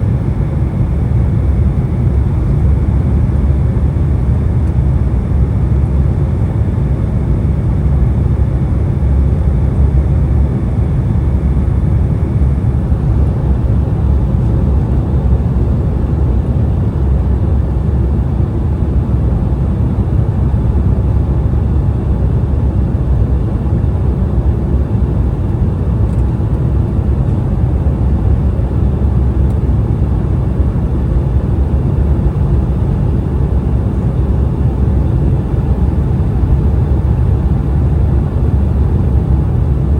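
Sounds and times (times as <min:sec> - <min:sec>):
jet engines low rumble: 0:00.0 - 0:39.9.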